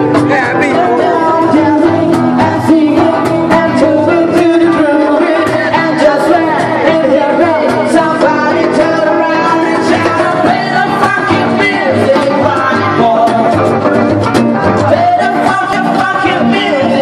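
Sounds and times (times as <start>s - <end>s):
acoustic guitars playing: 0.0s - 17.0s
hand drum beat: 0.0s - 17.0s
person singing: 0.0s - 17.0s.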